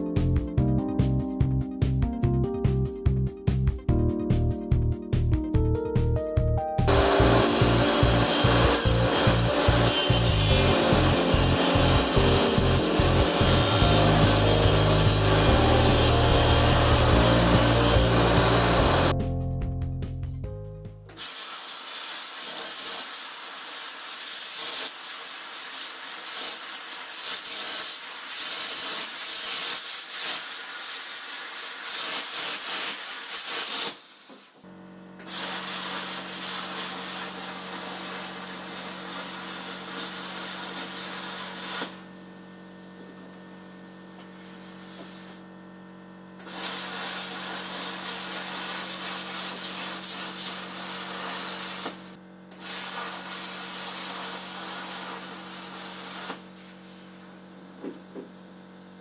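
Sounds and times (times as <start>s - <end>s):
welding arc hissing and crackling: 6.9s - 19.1s, 21.1s - 34.6s, 35.2s - 45.4s, 46.4s - 59.0s
welding machine hum: 6.9s - 19.1s, 21.2s - 59.0s.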